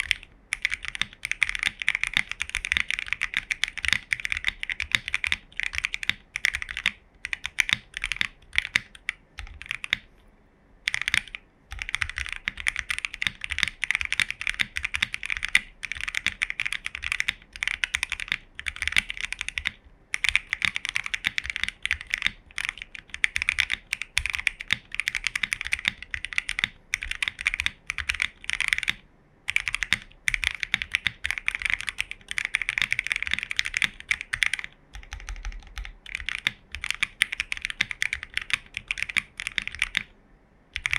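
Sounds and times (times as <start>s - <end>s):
typing on mechanical keyboard: 0.0s - 10.1s, 10.9s - 40.1s.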